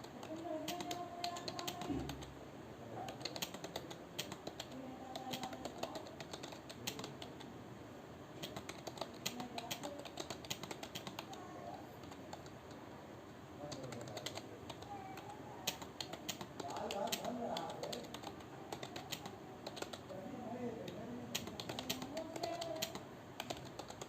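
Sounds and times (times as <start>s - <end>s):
computer keyboard keys clicking: 0.0s - 2.3s, 3.0s - 7.5s, 8.4s - 11.4s, 12.0s - 12.8s, 13.7s - 20.2s, 20.8s - 24.0s.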